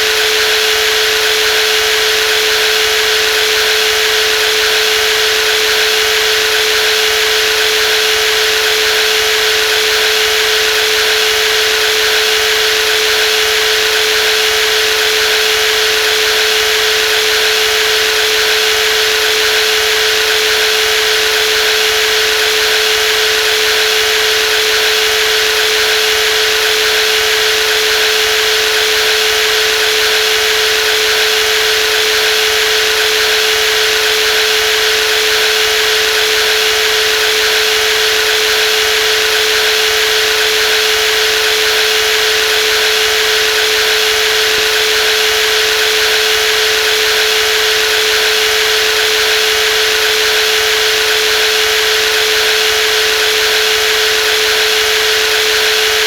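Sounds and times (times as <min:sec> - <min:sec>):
jigsaw whining: 0:00.0 - 0:56.0.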